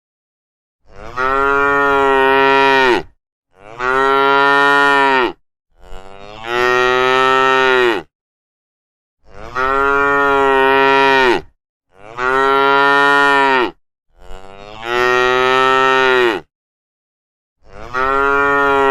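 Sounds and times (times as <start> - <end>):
cows mooing: 0.9 - 8.1, 9.2 - 16.5, 17.6 - 18.9.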